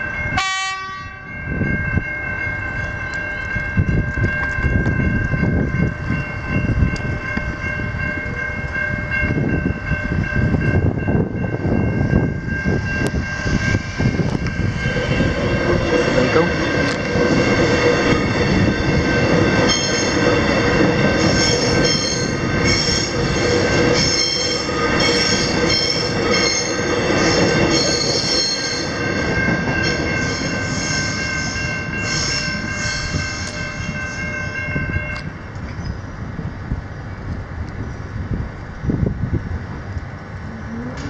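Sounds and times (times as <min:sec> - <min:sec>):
train rail rumble: 0:00.0 - 0:41.0.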